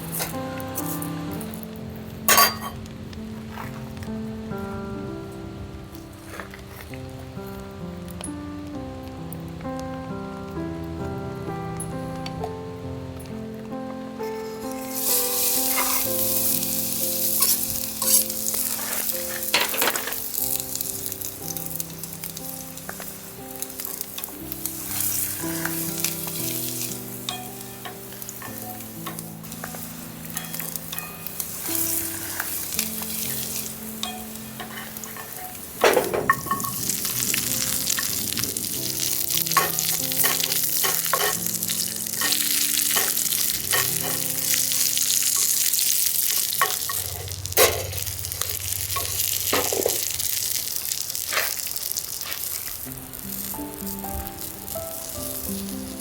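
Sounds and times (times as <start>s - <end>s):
soft background music: 0.0s - 51.3s, 52.2s - 56.0s
food sizzling in a frying pan: 0.0s - 56.0s.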